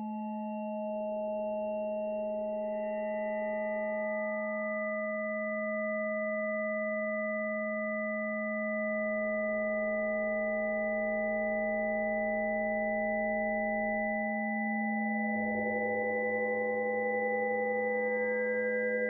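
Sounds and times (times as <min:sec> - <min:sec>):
lower wavering tone: 0:00.0 - 0:19.0.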